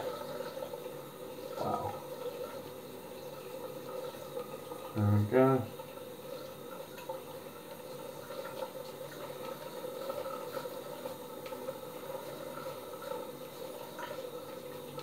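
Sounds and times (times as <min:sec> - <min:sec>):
steady hum and hiss: 0:00.0 - 0:15.0.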